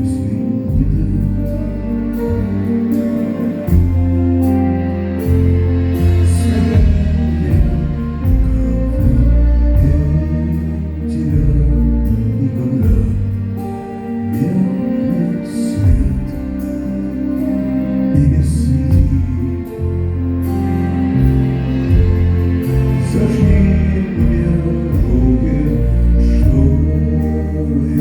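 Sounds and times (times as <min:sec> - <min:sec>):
deep bass notes: 0:00.0 - 0:28.0.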